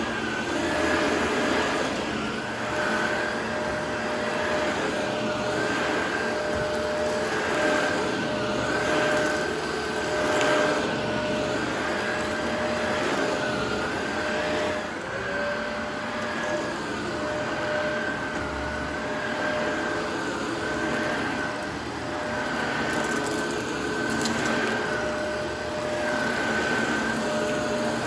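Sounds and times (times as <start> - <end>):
upright vacuum cleaner running: 0.0 - 28.0.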